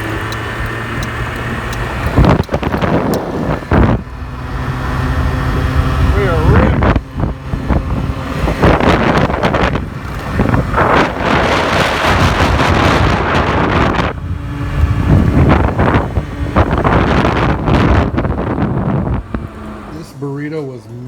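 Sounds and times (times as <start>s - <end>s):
wind buffeting microphone: 0.0s - 20.0s
engine and road rumble: 0.0s - 21.0s.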